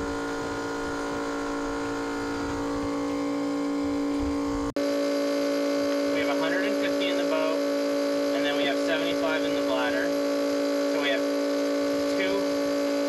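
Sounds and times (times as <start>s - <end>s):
electric pump humming: 0.0s - 13.0s.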